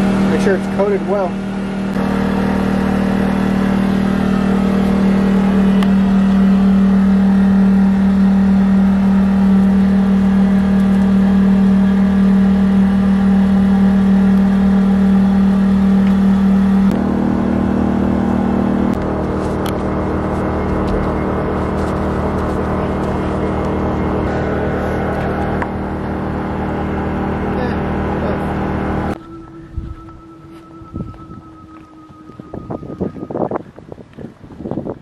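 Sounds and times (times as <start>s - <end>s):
motor humming: 0.0s - 34.3s.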